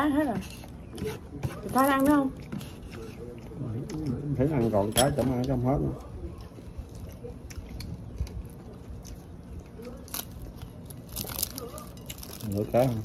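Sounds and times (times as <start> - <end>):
chewing crispy crepe: 0.0 - 13.0
crisp crepe crackling: 0.0 - 13.0.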